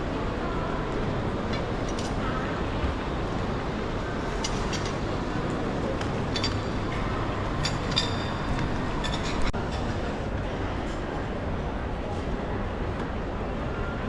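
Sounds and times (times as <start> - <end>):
indoor crowd hubbub: 0.0 - 14.0.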